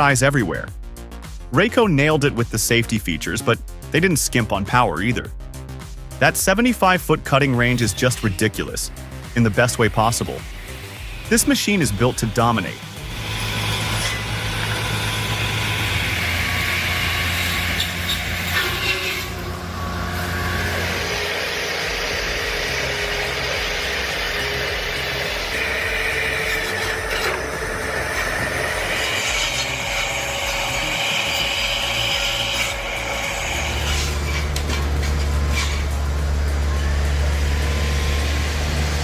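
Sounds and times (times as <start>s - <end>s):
high whine: 0.0s - 39.0s
heavy machine engine running: 3.9s - 39.0s.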